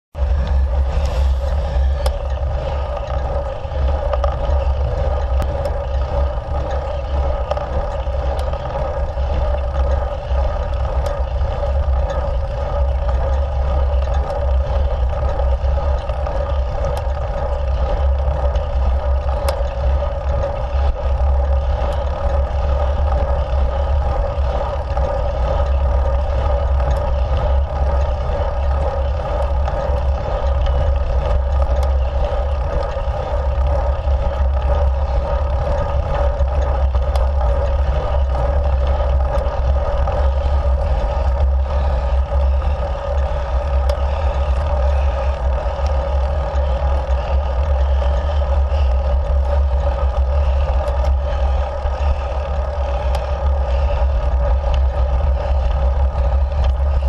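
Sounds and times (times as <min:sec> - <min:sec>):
bicycle road rumble: 0:00.1 - 0:57.0
wind buffeting on microphone: 0:00.2 - 0:57.0.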